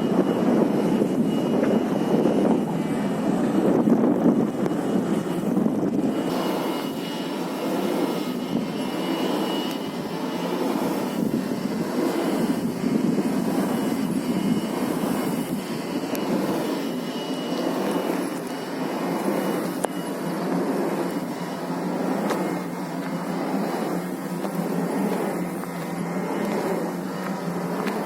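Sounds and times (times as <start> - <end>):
vehicle running noise: 0.0 - 28.0.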